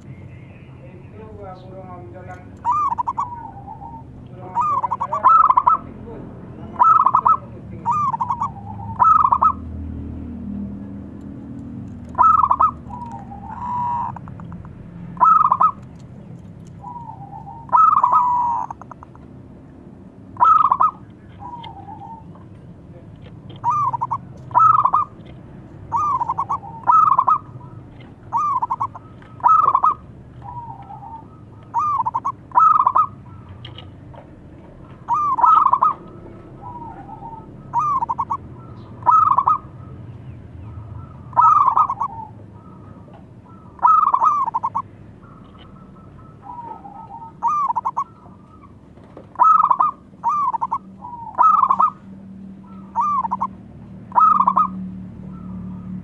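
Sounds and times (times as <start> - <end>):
dove cooing: 0.8 - 19.3, 20.2 - 56.0.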